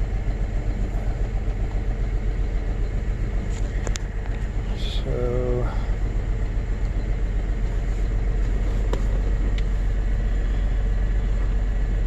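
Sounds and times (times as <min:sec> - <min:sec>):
car engine idling rough: 0:00.0 - 0:12.0.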